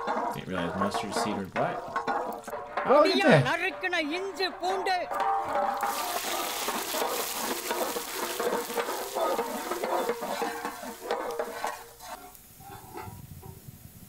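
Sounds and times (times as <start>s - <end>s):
ginger and garlic sizzling in oil: 0.0s - 3.5s, 4.6s - 14.0s.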